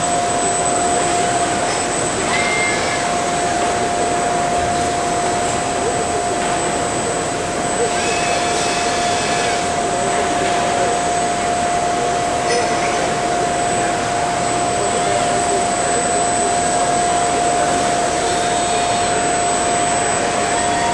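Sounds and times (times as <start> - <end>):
distant voices: 0.0 - 20.9
high-pitched whine: 0.0 - 20.9
machinery hum: 0.0 - 20.9.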